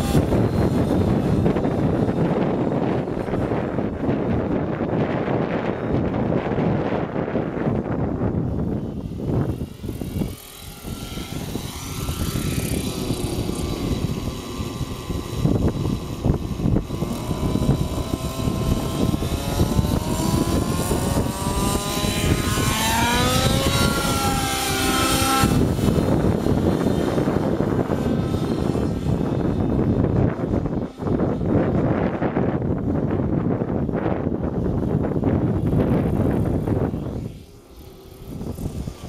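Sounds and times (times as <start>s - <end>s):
model helicopter engine whining: 0.0s - 39.0s.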